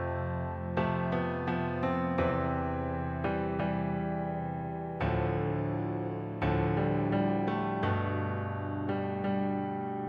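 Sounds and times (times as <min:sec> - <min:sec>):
slow keyboard music: 0:00.0 - 0:10.0.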